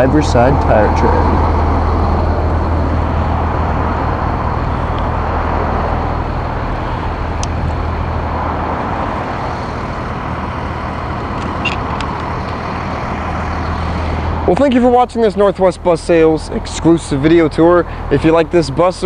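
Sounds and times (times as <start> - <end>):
vehicle rumble and rushing: 0.0 - 19.0.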